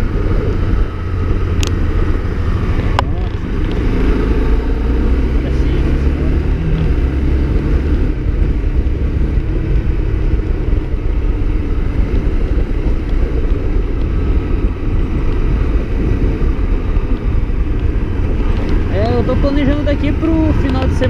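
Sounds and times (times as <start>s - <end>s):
motorcycle engine running: 0.0s - 21.0s
wind and road noise rumble: 0.0s - 21.0s.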